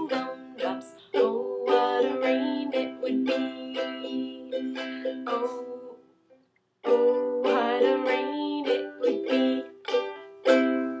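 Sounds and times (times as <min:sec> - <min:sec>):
ukulele strummed in chords: 0:00.0 - 0:06.0, 0:06.8 - 0:11.0.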